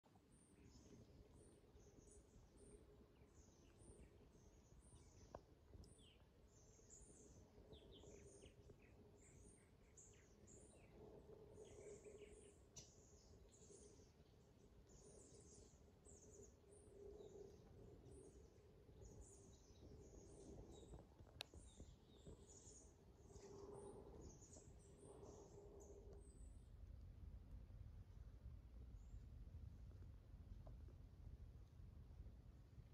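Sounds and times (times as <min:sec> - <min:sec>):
faint low hum: 0:00.1 - 0:32.9
songbirds chirping: 0:00.1 - 0:32.9.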